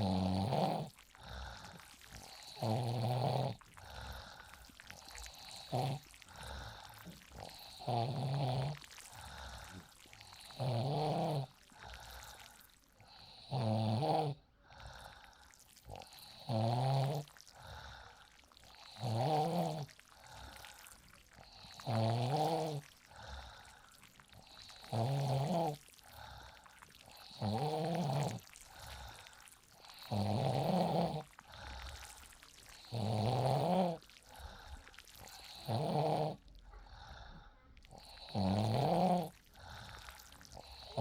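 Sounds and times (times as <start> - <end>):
woman snoring: 0.0 - 41.0.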